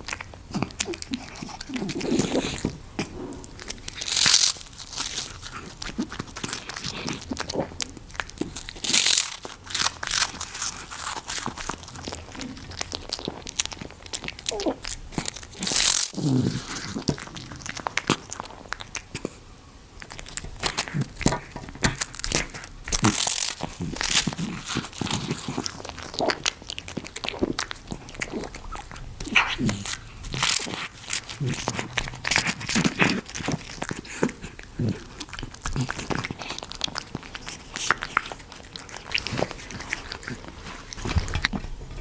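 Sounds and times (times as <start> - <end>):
pet crunching food: 0.0 - 19.4, 20.0 - 42.0.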